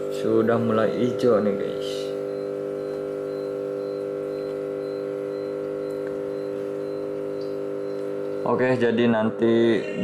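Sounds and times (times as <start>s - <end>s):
steady hum of held tones: 0.0s - 10.0s.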